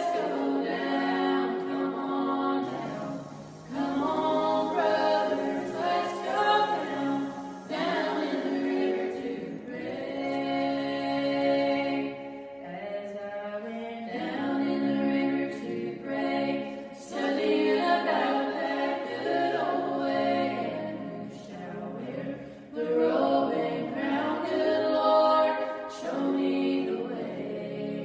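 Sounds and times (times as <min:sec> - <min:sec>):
choir singing unaccompanied: 0:00.0 - 0:28.0.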